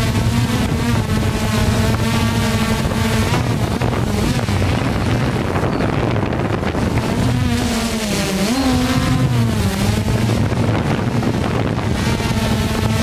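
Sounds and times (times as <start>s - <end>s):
drone propellers buzzing: 0.0s - 13.0s
wind noise on microphone: 0.0s - 13.0s.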